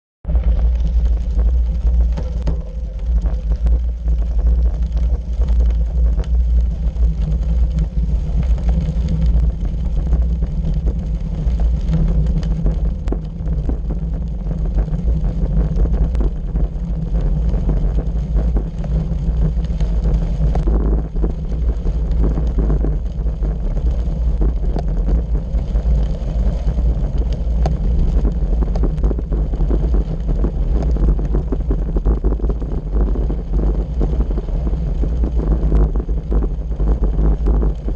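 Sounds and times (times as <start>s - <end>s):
bicycle tyres on gravel: 0.2s - 37.9s
wind buffeting microphone: 0.2s - 37.9s.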